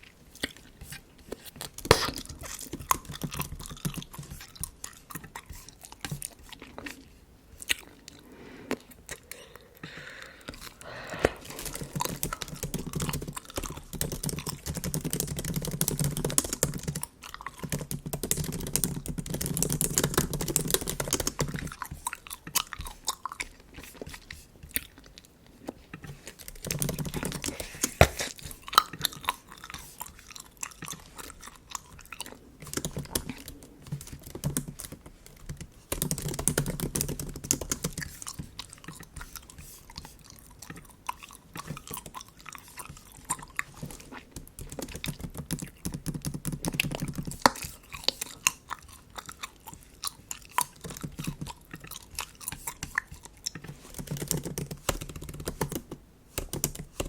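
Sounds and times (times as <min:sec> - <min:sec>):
chewing bubble gum: 0:00.0 - 0:55.8.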